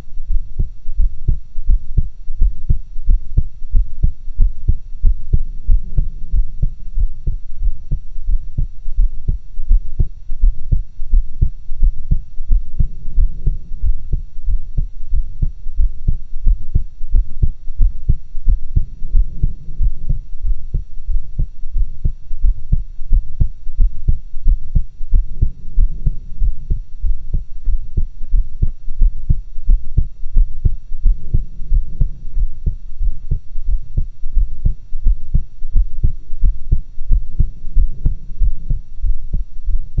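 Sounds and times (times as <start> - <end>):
heartbeat thumps: 0.0 - 40.0.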